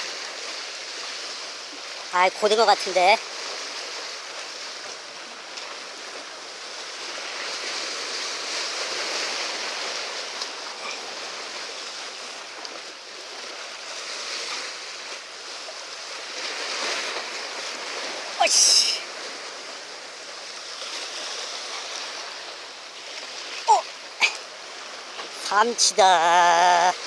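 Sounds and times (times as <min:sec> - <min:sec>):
sea waves washing against concrete: 0:00.0 - 0:27.0.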